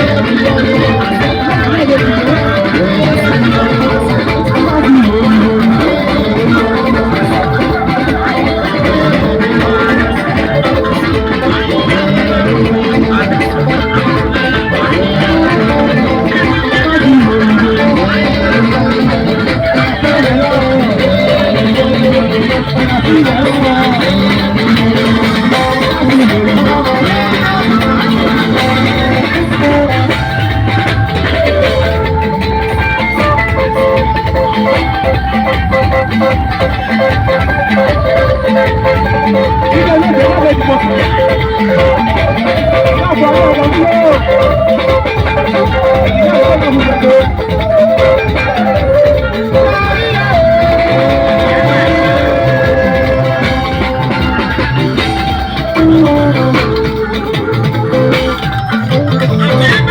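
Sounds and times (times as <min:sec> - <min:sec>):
band music with plucked guitar: 0:00.0 - 0:59.9.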